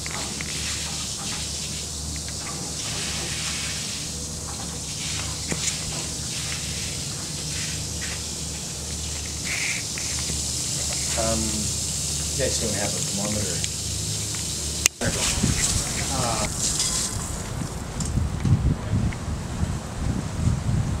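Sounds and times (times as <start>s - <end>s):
water rushing through hose: 0.0s - 18.0s.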